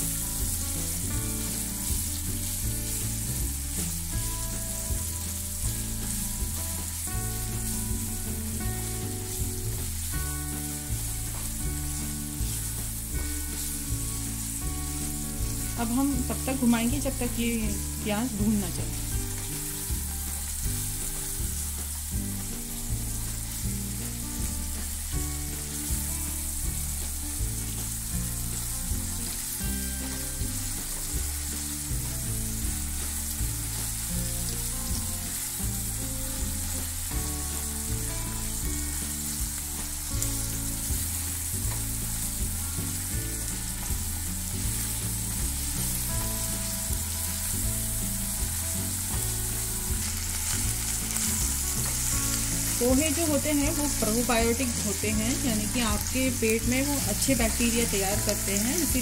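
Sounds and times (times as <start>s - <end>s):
background music: 0.0s - 59.0s
vegetables sizzling in hot oil: 0.0s - 59.0s.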